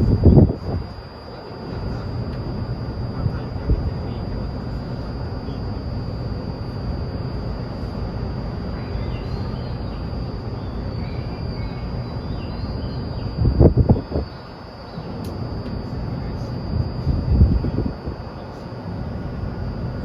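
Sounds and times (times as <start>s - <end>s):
thin high whine: 0.0s - 20.0s.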